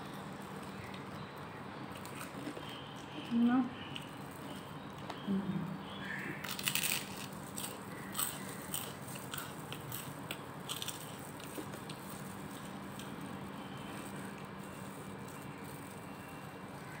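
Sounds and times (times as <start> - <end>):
crunching crisp fried food: 0.0 - 5.2, 5.9 - 17.0.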